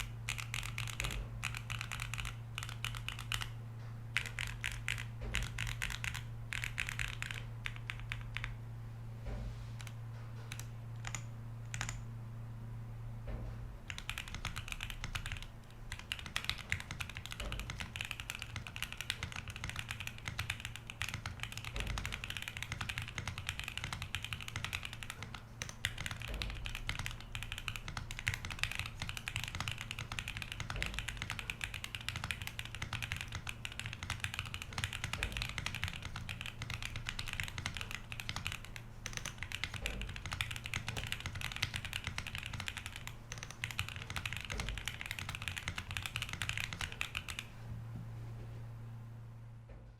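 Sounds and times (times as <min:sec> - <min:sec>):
mechanical keyboard typing: 0:00.0 - 0:08.6, 0:09.8 - 0:12.1, 0:13.8 - 0:47.5.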